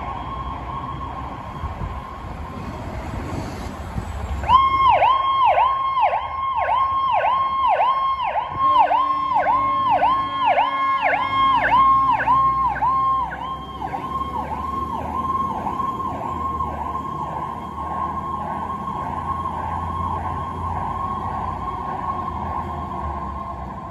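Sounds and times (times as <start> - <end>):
fire truck siren yelping: 0.0 - 3.2, 4.2 - 23.9
diesel engine rumble: 0.0 - 23.9.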